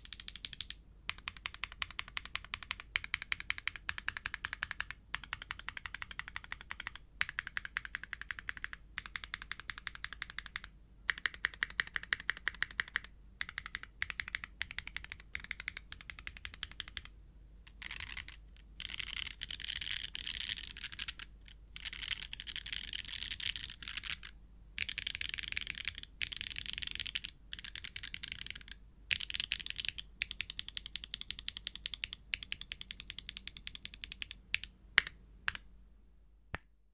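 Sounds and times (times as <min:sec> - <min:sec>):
mechanical keyboard typing: 0:00.0 - 0:17.1, 0:17.7 - 0:21.2, 0:21.8 - 0:34.7.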